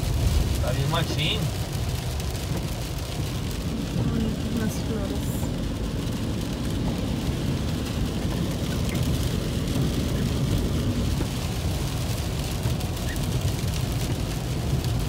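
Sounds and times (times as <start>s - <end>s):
hiss of water from road: 0.0s - 15.0s
vehicle engine and tyre rumble: 0.0s - 15.0s.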